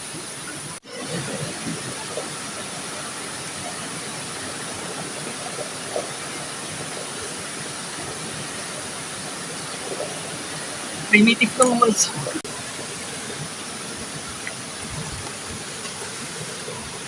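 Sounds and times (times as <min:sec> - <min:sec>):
river water rushing: 0:01.0 - 0:17.0.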